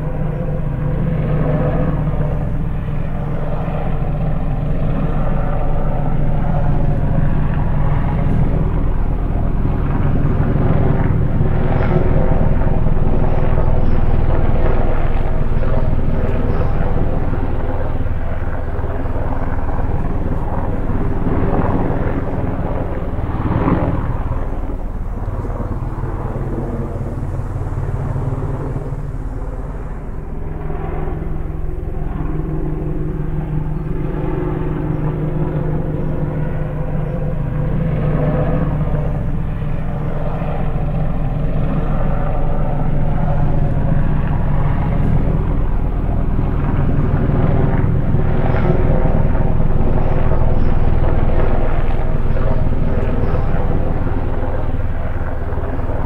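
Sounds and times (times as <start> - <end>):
aircraft engine drone: 0.0 - 56.0.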